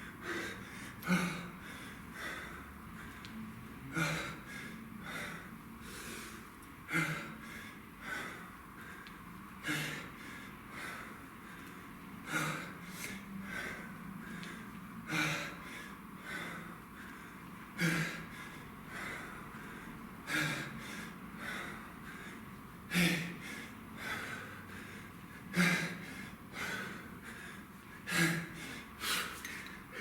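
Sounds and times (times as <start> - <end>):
man breathing hard: 0.0 - 30.0.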